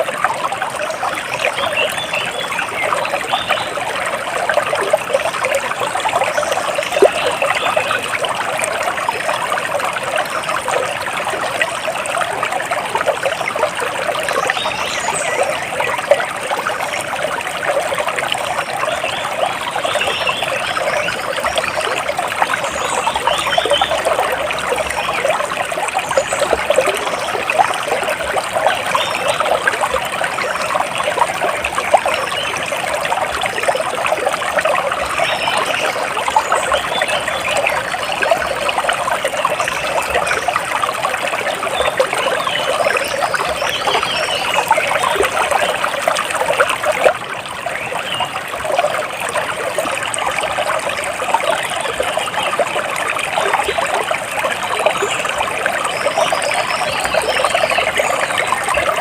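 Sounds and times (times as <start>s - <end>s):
water splashing and trickling: 0.0s - 59.0s.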